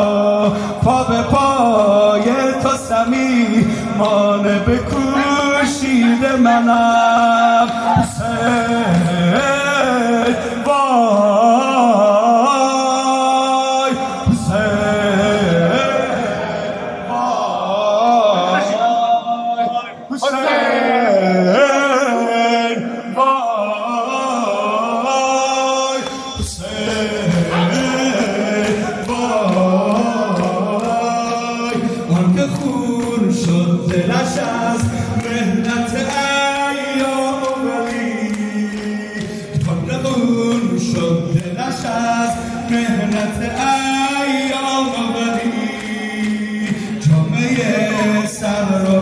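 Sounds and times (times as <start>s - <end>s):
men chanting together: 0.0s - 49.0s.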